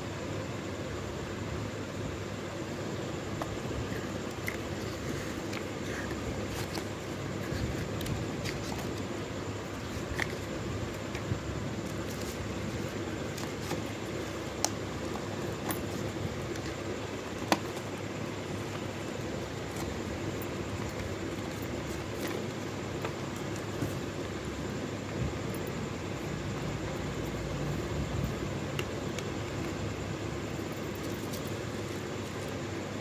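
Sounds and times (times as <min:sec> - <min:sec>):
steady low background noise: 0:00.0 - 0:33.0.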